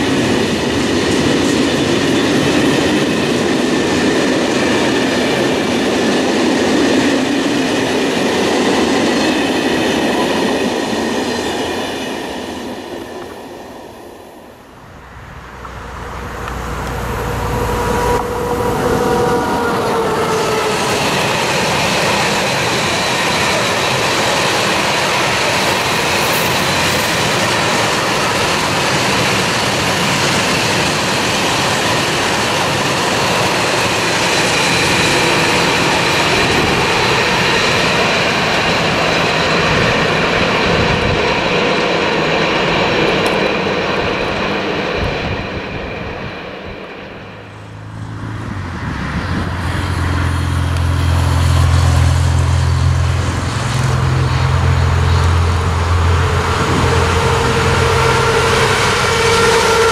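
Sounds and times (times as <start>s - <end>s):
train wheels clacking on rails: 0.0s - 13.8s, 15.6s - 47.5s, 49.2s - 59.9s
freight train rumble: 0.0s - 59.9s
passenger train passing: 0.0s - 59.9s.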